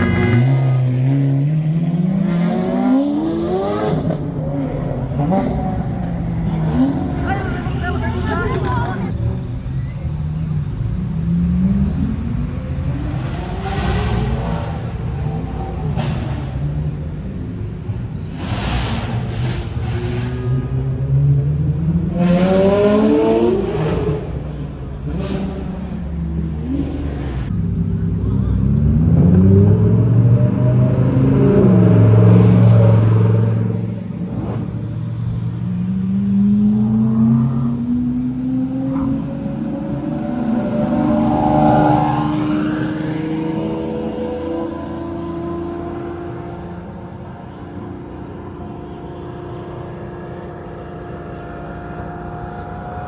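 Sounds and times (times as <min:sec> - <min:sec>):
sports car engines revving: 0:00.0 - 0:53.0.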